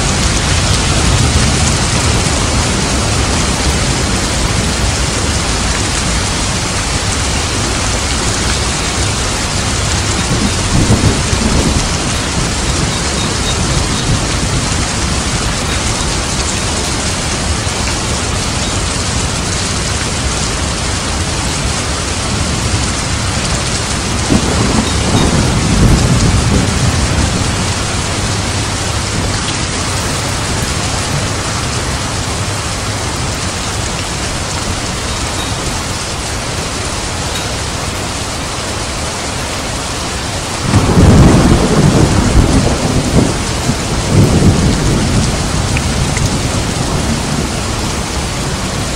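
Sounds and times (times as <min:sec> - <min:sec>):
thunder rumbling: 0:00.0 - 0:37.8, 0:40.2 - 0:48.9
steady rain falling: 0:00.0 - 0:48.9.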